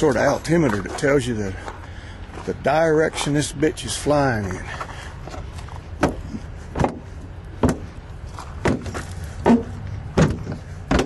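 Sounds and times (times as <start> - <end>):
footsteps walking: 0.0 - 11.0
low steady rumble: 0.0 - 11.0.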